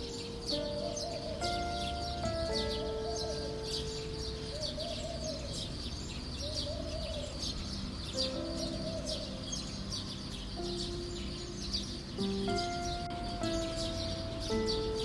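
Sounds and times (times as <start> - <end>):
small birds chirping: 0.0 - 15.0
soft music of long held notes: 0.0 - 15.0.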